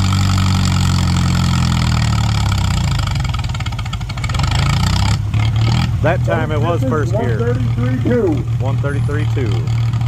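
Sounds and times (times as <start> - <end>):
tractor engine pulling hard: 0.0 - 10.0.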